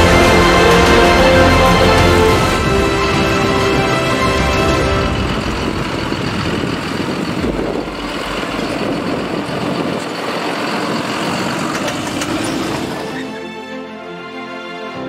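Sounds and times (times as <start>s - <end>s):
tractor diesel engine rumbling: 0.0s - 13.7s.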